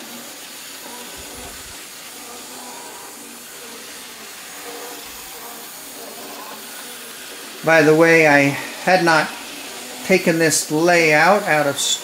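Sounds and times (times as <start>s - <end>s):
model trains whirring: 0.0s - 12.0s.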